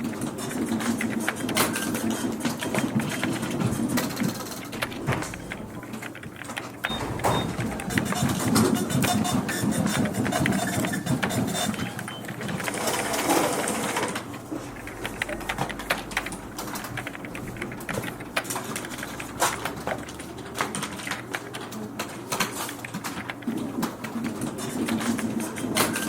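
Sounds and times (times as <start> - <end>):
keyboard typing clicks: 0.0 - 26.0
office machine and paper noise: 0.0 - 26.0.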